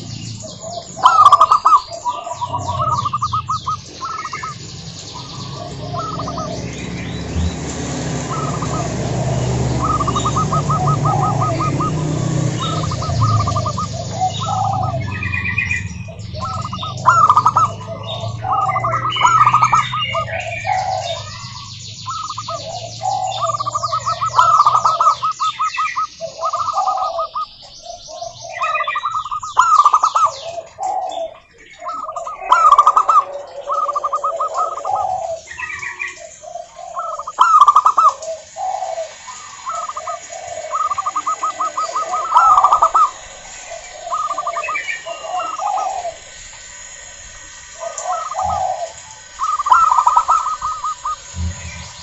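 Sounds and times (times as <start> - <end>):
doves cooing with trills: 0.0 - 52.0
high fast bird chirping: 0.0 - 52.0.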